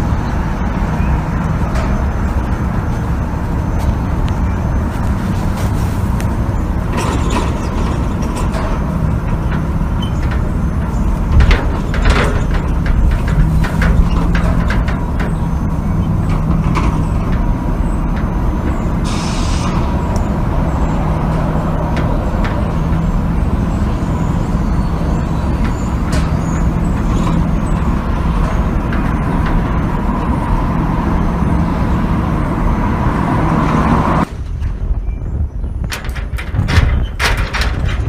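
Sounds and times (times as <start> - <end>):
heavy metal gate grinding: 6.3 - 38.0.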